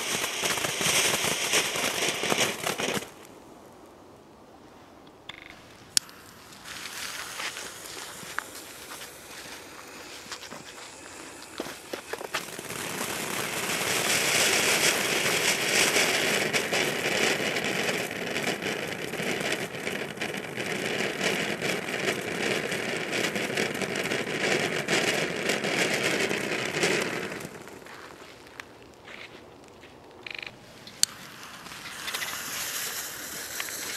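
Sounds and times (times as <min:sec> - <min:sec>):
fountain firework hissing and crackling: 0:00.0 - 0:03.4, 0:05.6 - 0:33.9.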